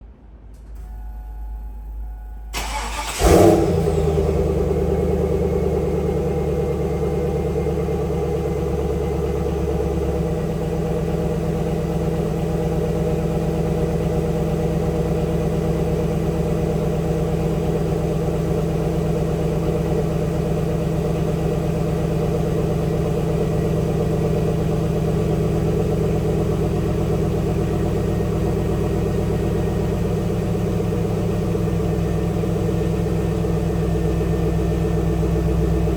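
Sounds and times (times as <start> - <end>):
car engine starting and idling: 0.0 - 35.9.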